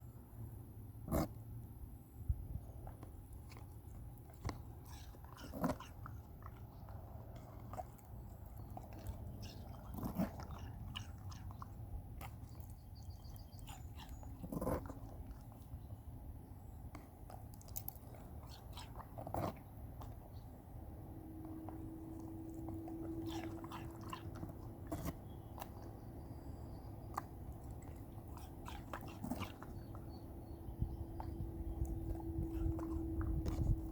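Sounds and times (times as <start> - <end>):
dog crunching watermelon: 2.4 - 33.9.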